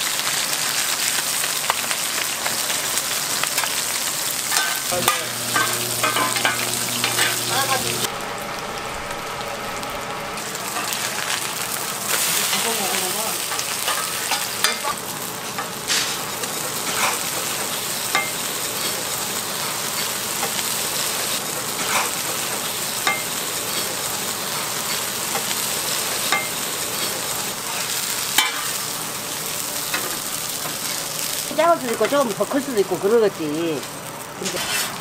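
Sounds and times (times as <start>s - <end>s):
pancakes sizzling on griddle: 0.0s - 35.0s.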